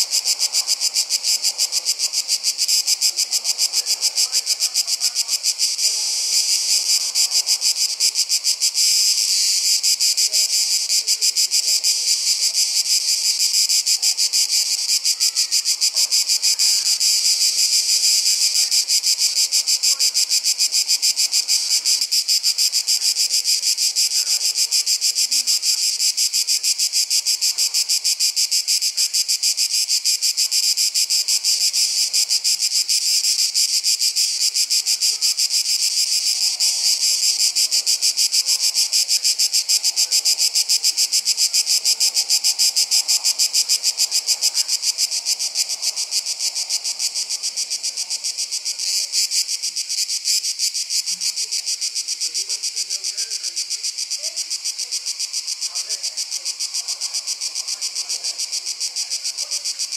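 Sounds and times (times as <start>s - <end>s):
insects shrilling: 0.0s - 59.9s.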